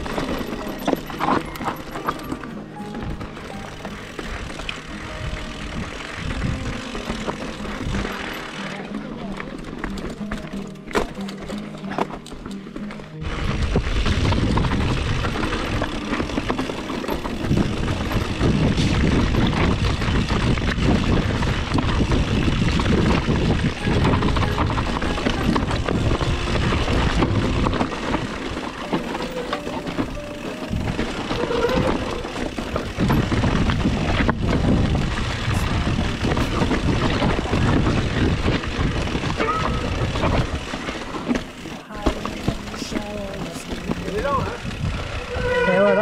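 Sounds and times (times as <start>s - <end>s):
wind rumbling on microphone: 0.0s - 8.4s, 13.2s - 46.0s
bike tyres clattering over stones: 0.0s - 46.0s.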